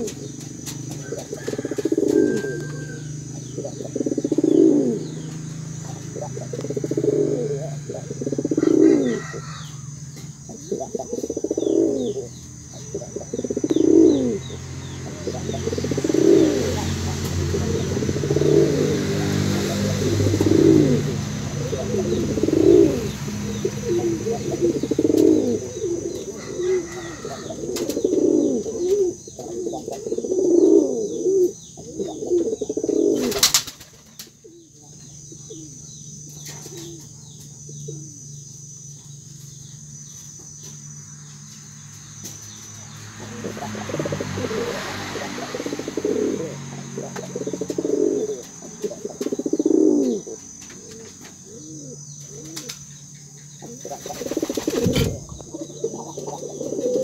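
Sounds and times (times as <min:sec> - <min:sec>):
pigeon cooing: 0:00.0 - 0:33.6, 0:34.2 - 0:38.3, 0:43.2 - 0:52.9, 0:53.5 - 0:57.0.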